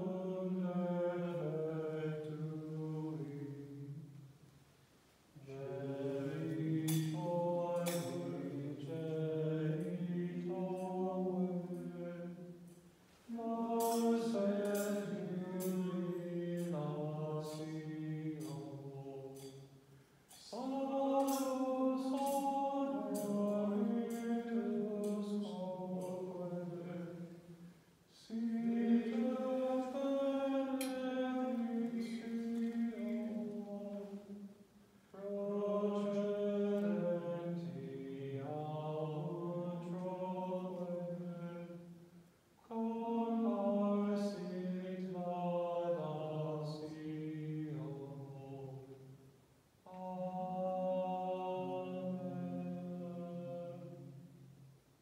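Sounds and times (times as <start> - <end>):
low voice chanting a hymn: 0.0 - 4.4, 5.3 - 55.0.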